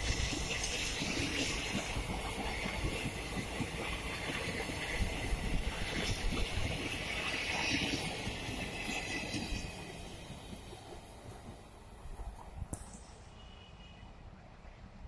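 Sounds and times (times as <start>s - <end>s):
train coaches rolling on rails: 0.0s - 15.0s.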